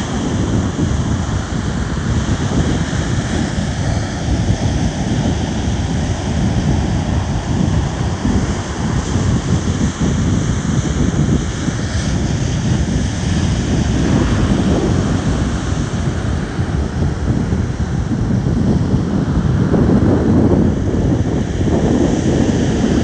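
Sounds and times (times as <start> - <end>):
ocean surf washing in: 0.0 - 23.0
wind buffeting microphone: 0.0 - 23.0.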